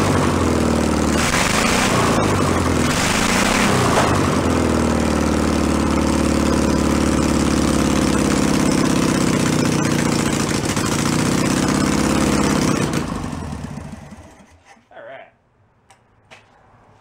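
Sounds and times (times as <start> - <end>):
car engine running and winding down: 0.0 - 14.6.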